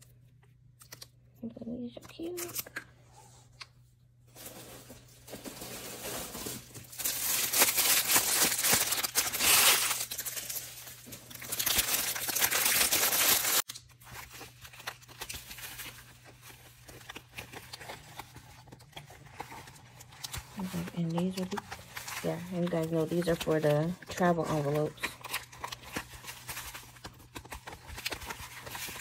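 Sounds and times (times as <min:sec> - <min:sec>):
packaging crinkling and tearing: 0:04.4 - 0:29.0.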